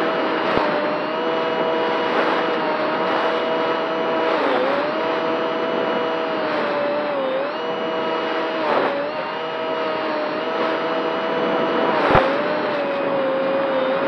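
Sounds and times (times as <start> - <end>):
model plane motor whining: 0.0 - 14.0
wind rush: 0.0 - 14.0.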